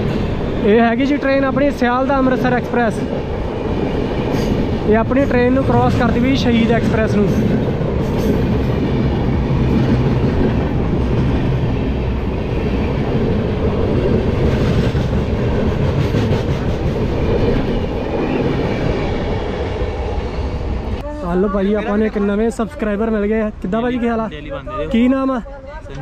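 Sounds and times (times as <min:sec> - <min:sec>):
train coaches rumbling past: 0:00.0 - 0:24.7.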